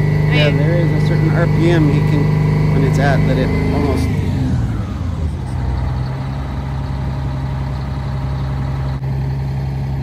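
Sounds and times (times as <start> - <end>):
diesel bus engine idling: 0.0 - 10.0.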